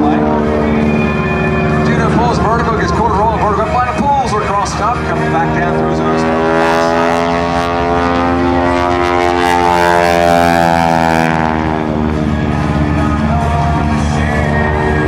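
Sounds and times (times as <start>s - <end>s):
biplane engine and propeller: 0.0s - 15.0s.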